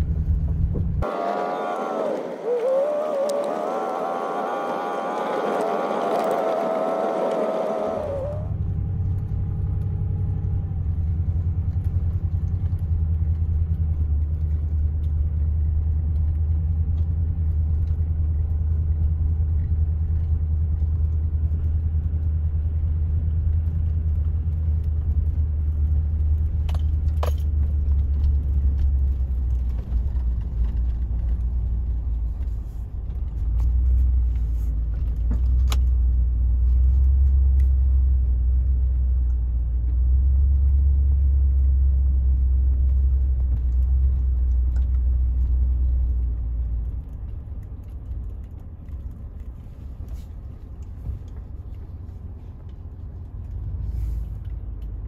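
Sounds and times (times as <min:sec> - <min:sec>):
vehicle engine and tyres rumbling: 0:00.0 - 0:55.0.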